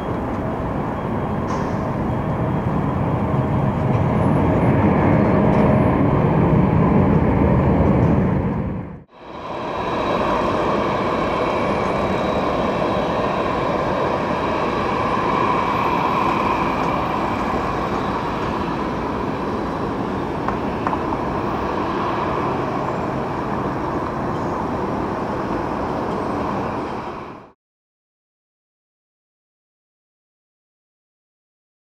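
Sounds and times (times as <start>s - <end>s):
jet engines rushing: 0.0s - 27.6s.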